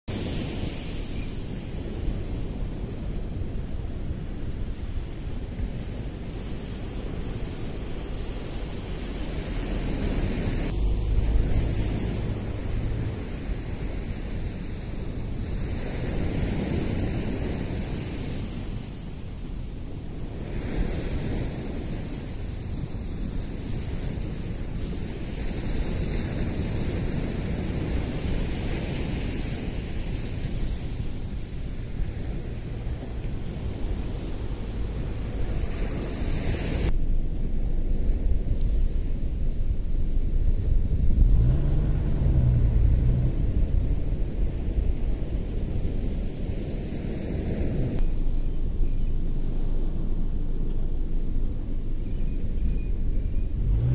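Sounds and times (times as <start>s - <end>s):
surf rushing: 0.1s - 52.0s
wind blowing on microphone: 0.1s - 53.9s.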